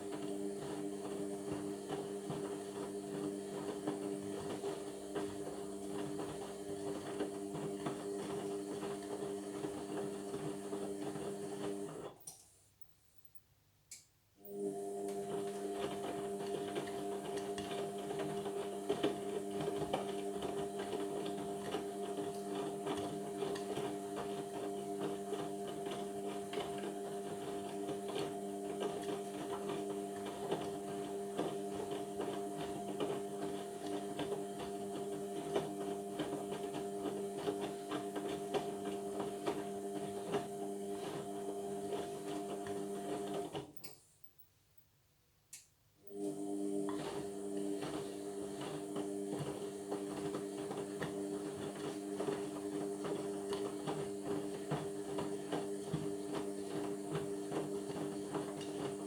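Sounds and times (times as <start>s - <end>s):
washing machine motor hum: 0.0s - 12.2s, 14.4s - 43.8s, 46.1s - 59.0s.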